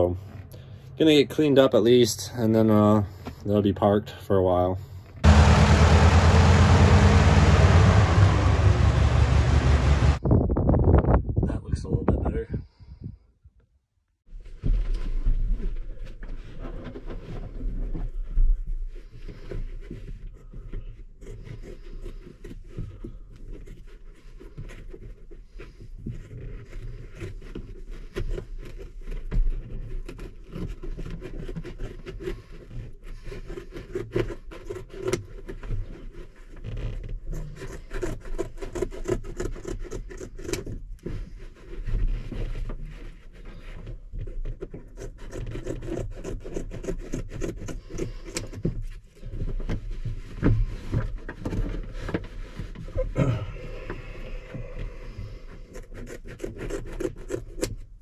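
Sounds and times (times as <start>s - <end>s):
carpet scraping and rubbing: 5.0s - 10.2s, 14.9s - 53.2s, 53.9s - 58.0s.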